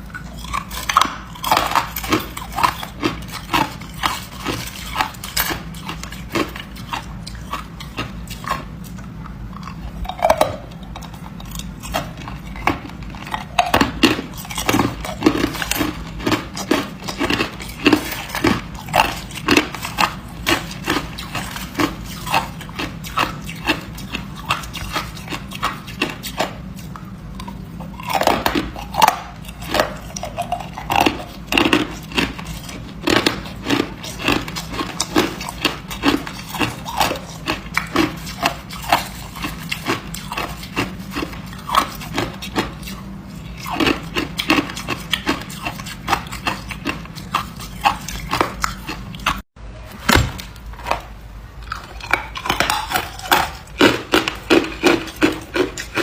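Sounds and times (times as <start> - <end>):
person chewing hard ice: 0.0 - 49.5, 50.1 - 56.0.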